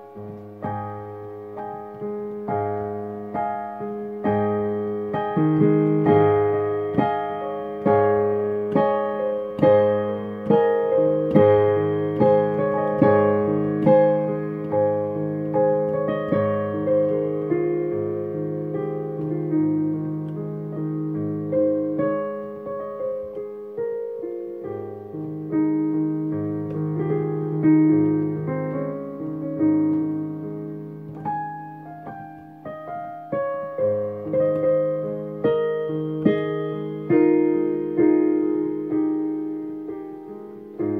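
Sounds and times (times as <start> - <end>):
digital piano piece: 0.0 - 40.9.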